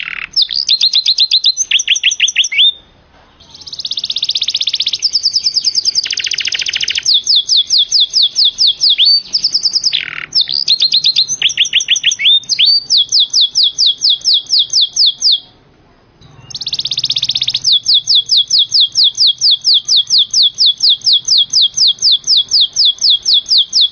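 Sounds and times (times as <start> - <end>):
canary singing trills: 0.0 - 23.9.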